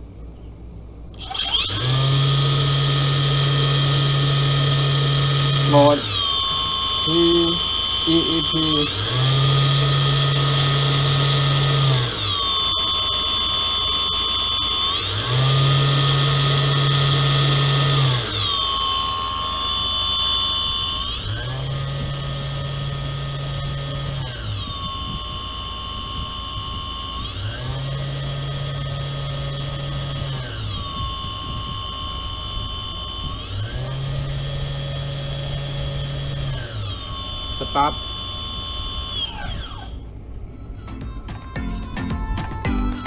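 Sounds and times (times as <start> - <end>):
blower fan whining: 0.0 - 43.0.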